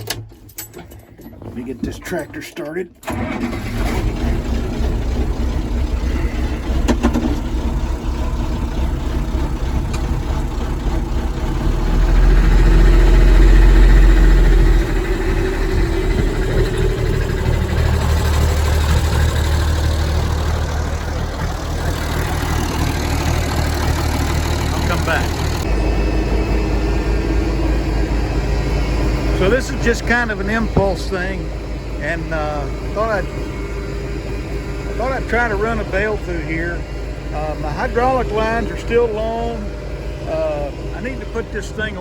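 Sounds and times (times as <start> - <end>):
diesel tractor engine running: 0.0 - 42.0.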